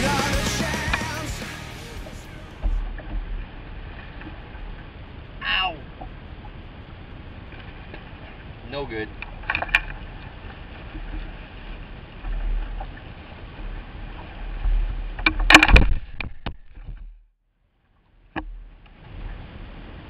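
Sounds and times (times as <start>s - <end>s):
water noise: 0.0s - 20.0s
wind: 0.5s - 20.0s.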